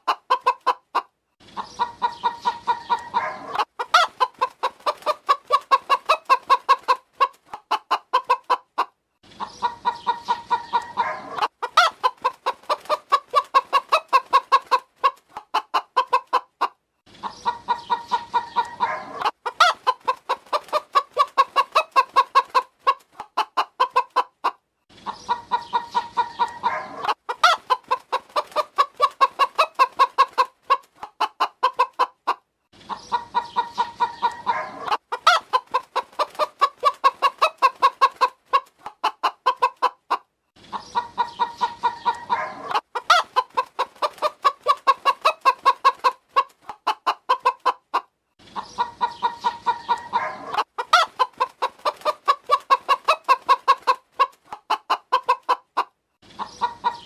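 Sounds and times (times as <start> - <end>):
hens clucking: 0.0 - 57.0.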